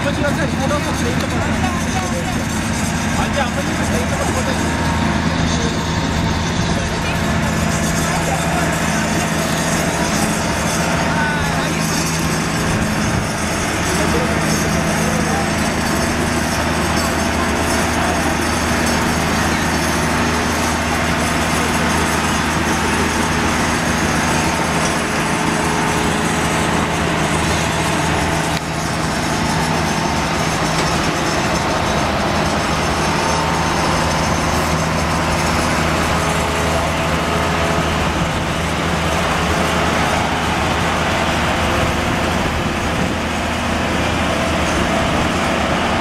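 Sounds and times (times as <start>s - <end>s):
locomotive engine humming: 0.0s - 46.0s.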